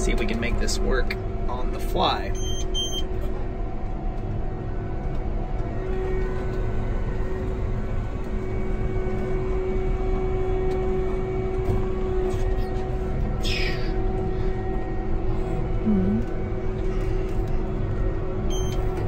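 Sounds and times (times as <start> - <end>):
engine rumble: 0.0 - 19.0
steady whine: 0.0 - 19.0.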